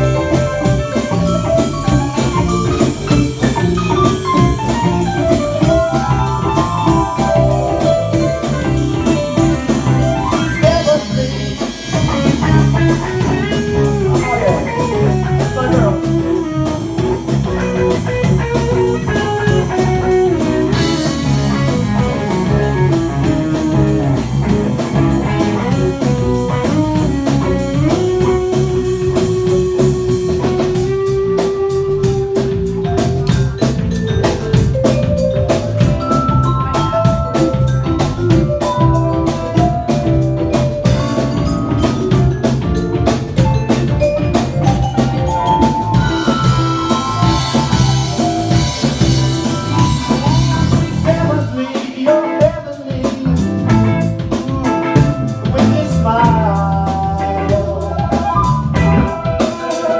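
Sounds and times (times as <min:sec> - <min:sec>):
psychedelic rock instrumental: 0:00.0 - 0:59.9.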